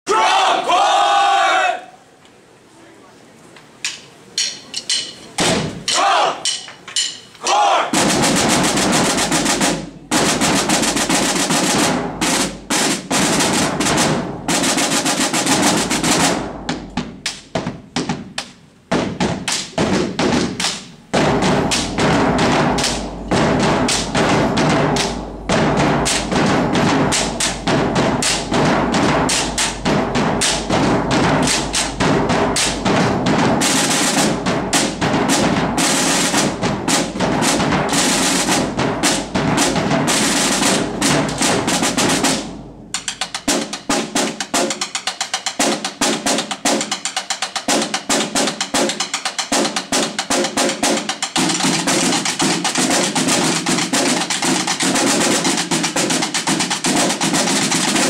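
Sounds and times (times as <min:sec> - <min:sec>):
marching drum line: 0:04.4 - 0:58.0.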